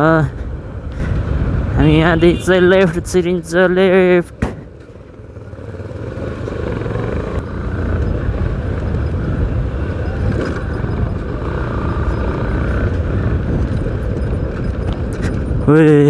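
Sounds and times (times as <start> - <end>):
wind rushing over microphone: 0.0 - 4.8, 5.4 - 16.0
motorcycle engine rumble: 0.0 - 16.0.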